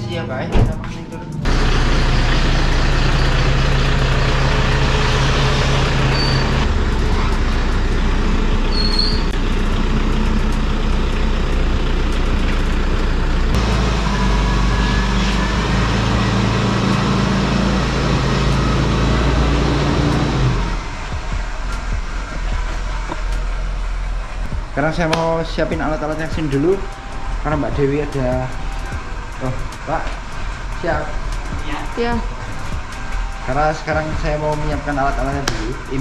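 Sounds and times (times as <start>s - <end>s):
car engine running at low speed: 1.4s - 31.6s.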